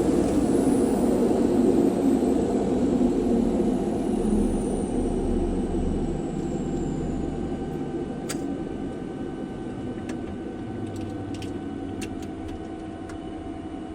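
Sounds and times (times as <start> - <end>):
turboprop engines droning: 0.0 - 13.9.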